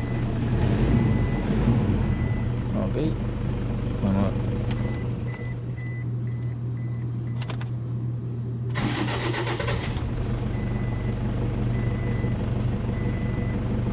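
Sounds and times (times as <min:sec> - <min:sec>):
diesel engine idling: 0:00.0 - 0:06.4, 0:08.7 - 0:13.9.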